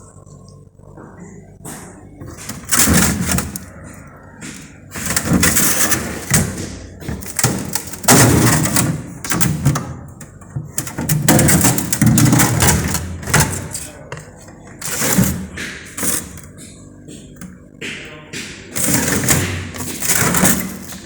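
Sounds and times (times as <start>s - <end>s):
refrigerator door thuds and knocks: 2.2s - 16.6s, 17.4s - 21.0s.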